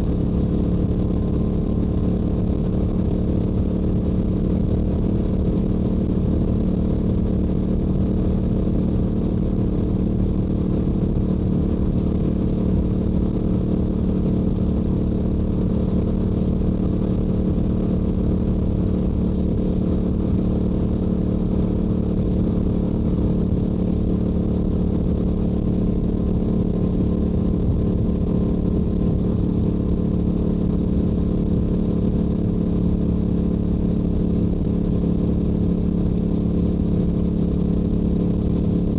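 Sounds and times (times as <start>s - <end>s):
motorcycle engine cruising: 0.0s - 38.9s
wind rumble on microphone: 0.0s - 38.9s.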